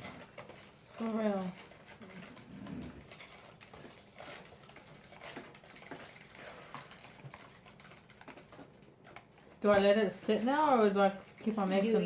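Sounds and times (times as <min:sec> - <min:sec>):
slime being stirred: 0:00.0 - 0:12.0.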